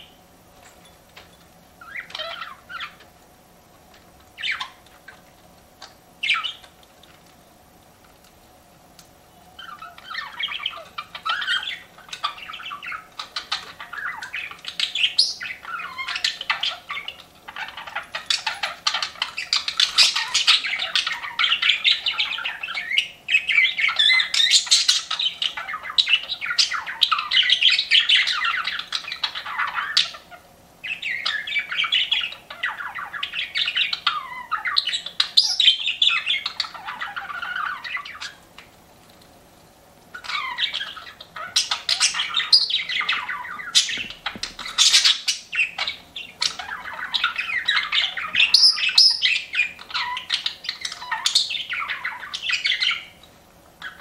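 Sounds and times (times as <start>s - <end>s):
budgerigars chirping and chattering: 0.0s - 7.8s, 9.5s - 38.8s, 40.1s - 54.0s.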